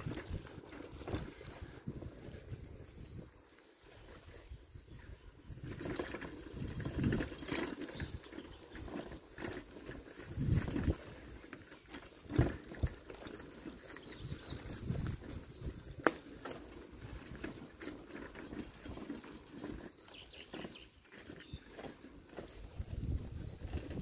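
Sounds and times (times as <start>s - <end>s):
footsteps on dirt path: 0.0s - 24.0s.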